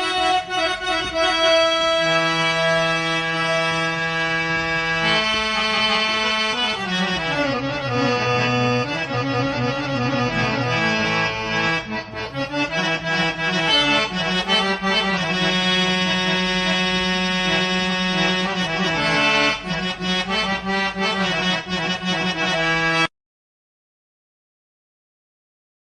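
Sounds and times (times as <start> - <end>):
accordion-like reed instrument music: 0.0 - 23.1.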